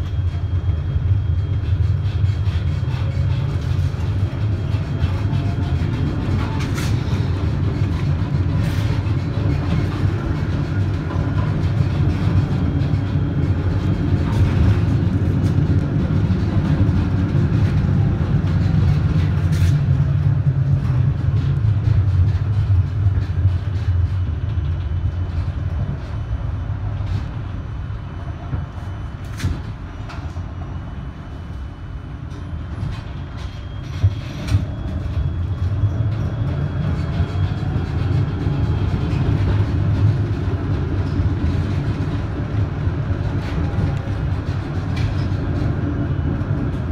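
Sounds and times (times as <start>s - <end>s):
tram wheels and motors rumbling: 0.0s - 46.9s.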